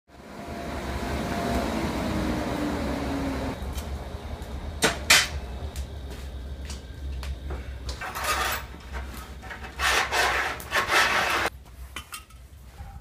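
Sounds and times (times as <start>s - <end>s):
forge humming and hissing: 0.1s - 11.5s.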